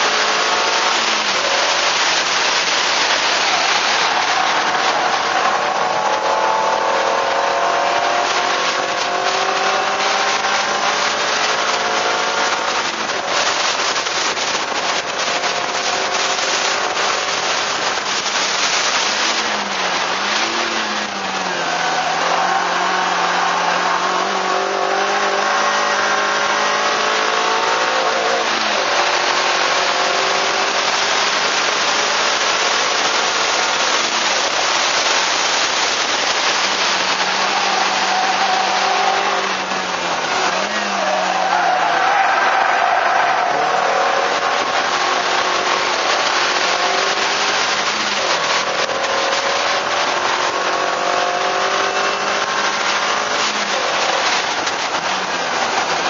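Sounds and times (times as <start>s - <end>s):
car engine revving: 0.0s - 56.0s
wind and road noise: 0.0s - 56.0s.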